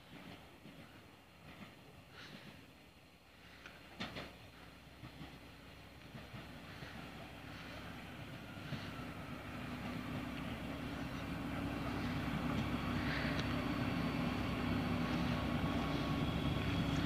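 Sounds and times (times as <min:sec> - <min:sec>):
diesel train engine humming: 0:00.0 - 0:17.0.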